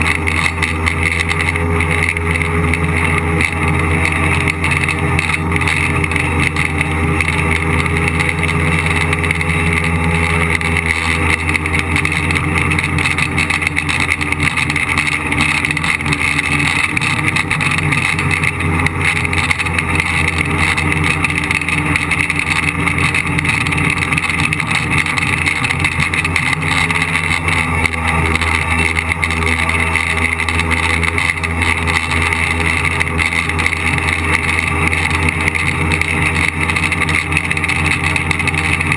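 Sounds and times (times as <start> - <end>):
drone motors and propellers buzzing: 0.0 - 38.9.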